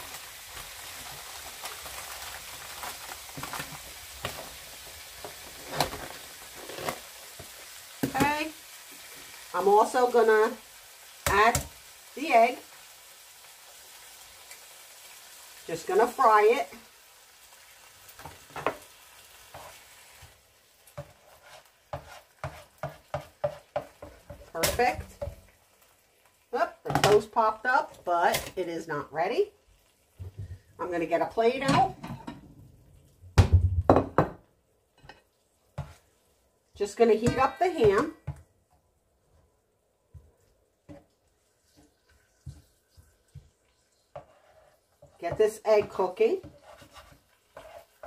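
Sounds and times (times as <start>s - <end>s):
ham sizzling in a frying pan: 0.0s - 48.0s.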